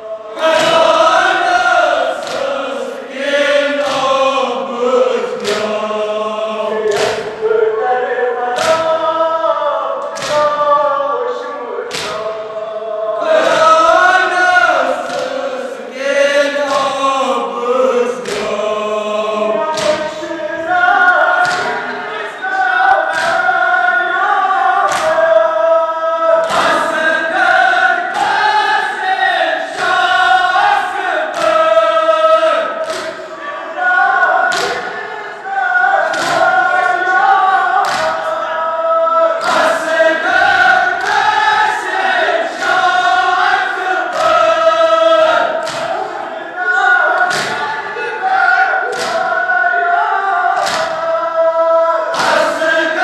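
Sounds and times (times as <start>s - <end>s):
crowd chanting: 0.0s - 53.0s.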